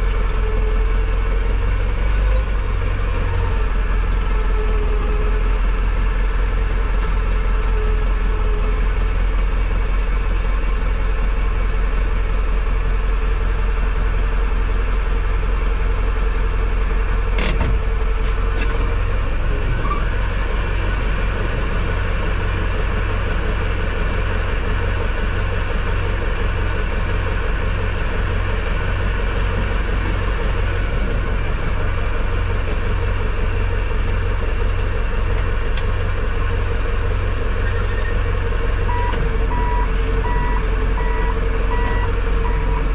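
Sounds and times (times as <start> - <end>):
tractor engine idling: 0.0 - 42.9.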